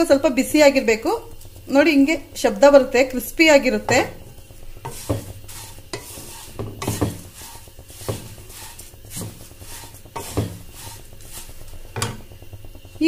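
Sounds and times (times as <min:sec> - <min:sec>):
dry flakes scraping in a pan: 0:00.0 - 0:13.0.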